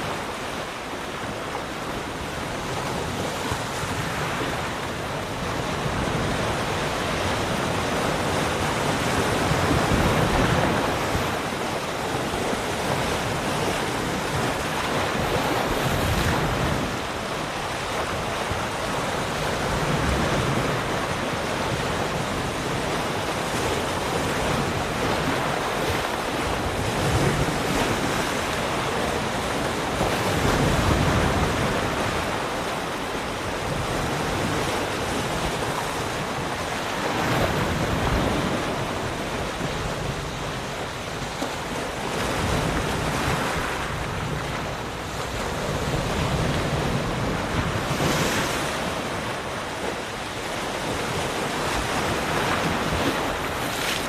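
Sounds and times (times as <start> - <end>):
ocean waves breaking on shore: 0.0 - 54.0
wind: 0.0 - 54.0.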